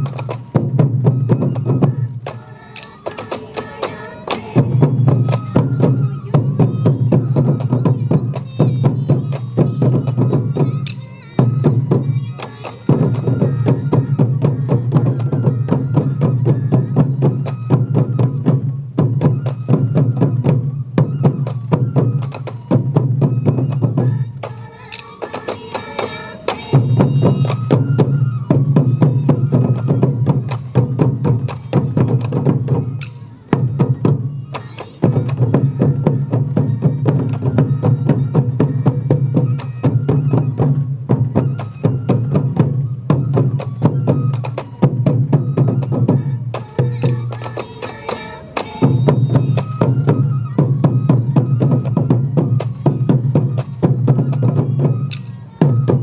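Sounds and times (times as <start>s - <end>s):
taiko drums beaten fast: 0.0s - 56.0s.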